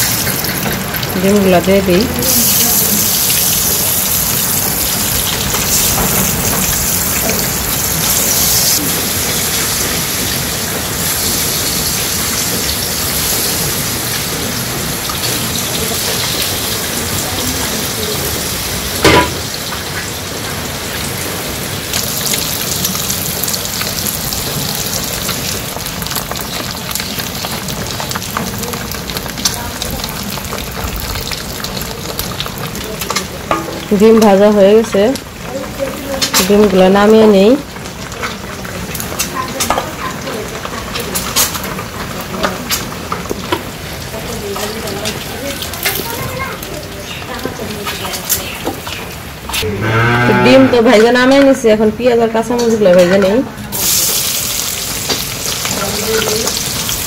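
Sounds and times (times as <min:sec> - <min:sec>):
eggs sizzling in hot oil: 0:00.0 - 0:57.0.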